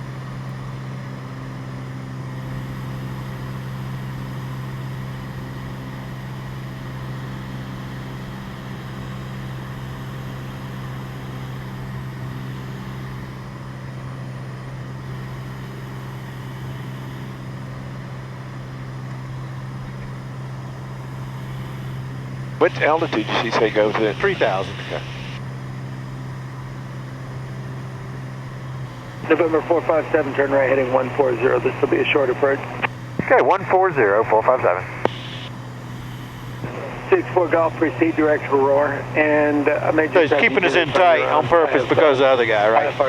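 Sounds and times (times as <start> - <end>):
propeller plane engine droning: 0.0 - 43.0.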